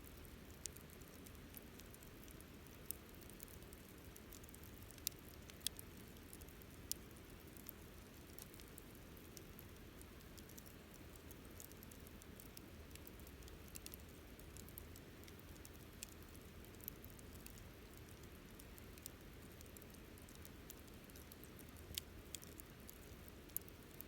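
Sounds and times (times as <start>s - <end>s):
faint low hiss: 0.0s - 24.0s
wood fire crackling: 0.1s - 24.0s.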